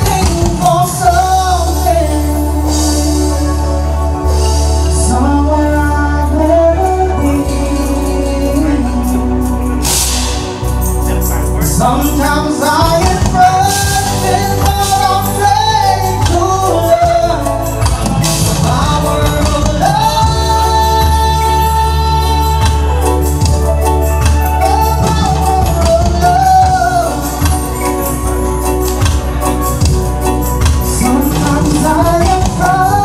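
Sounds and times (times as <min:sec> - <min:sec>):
man singing into microphone: 0:00.0 - 0:10.2, 0:11.4 - 0:28.6, 0:30.9 - 0:33.0
drums: 0:00.0 - 0:33.0
keyboards: 0:00.0 - 0:33.0
low bass: 0:00.0 - 0:33.0.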